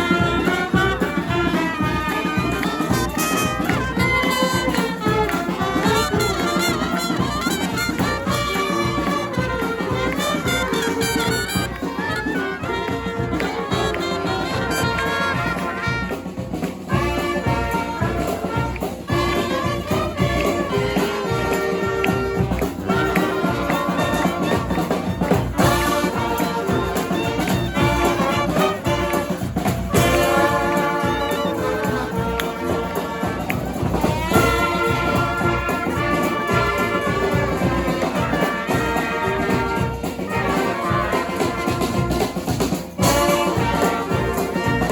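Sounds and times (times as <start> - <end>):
brass band playing: 0.0 - 44.9
drums and cymbals beat: 0.0 - 44.9.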